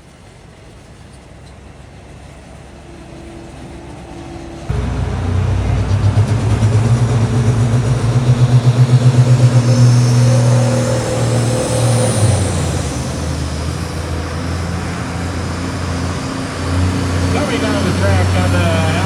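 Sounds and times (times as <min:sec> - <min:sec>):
tractor engine running hard: 0:01.6 - 0:19.0.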